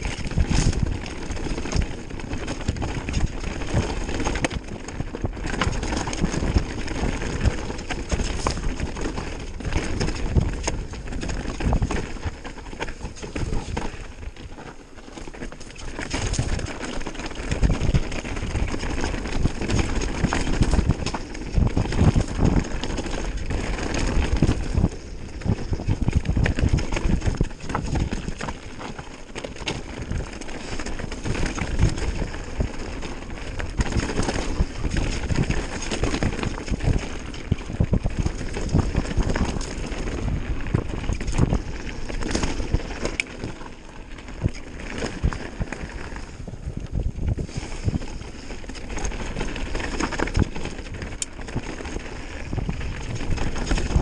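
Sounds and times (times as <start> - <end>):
bike frame rattling: 0.0 - 54.0
tyres crunching over loose stones: 0.0 - 54.0.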